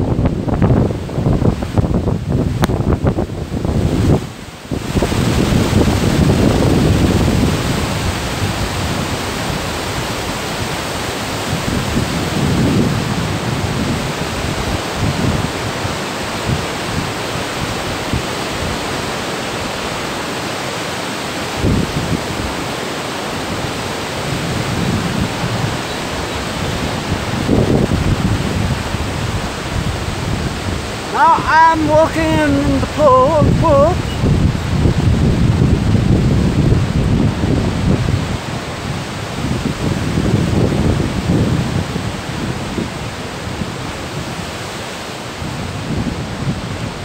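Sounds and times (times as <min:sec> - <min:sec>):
fast river rushing: 0:00.0 - 0:47.0
wind rumbling on microphone: 0:00.0 - 0:47.0.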